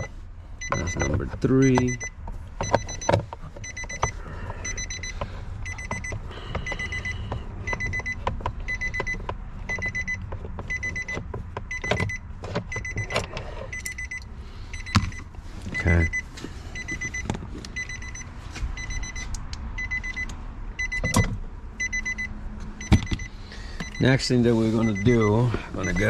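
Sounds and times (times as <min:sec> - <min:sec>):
car warning chime beeping: 0:00.0 - 0:26.0.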